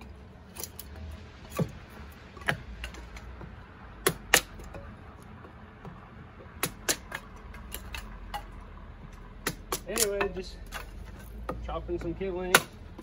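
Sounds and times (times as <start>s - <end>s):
hatchet chopping wood: 1.5s - 13.0s.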